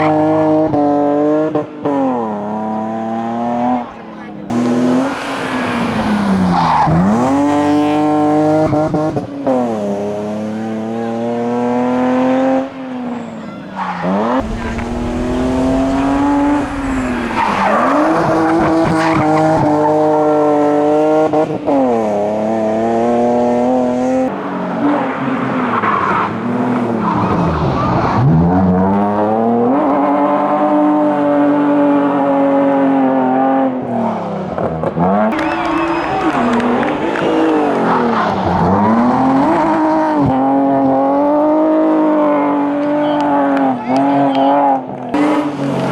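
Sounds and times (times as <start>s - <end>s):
racing car engines accelerating hard: 0.0s - 45.9s.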